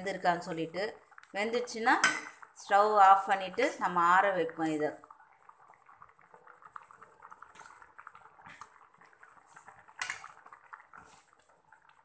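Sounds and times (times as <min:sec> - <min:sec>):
food simmering and bubbling: 0:00.0 - 0:12.0.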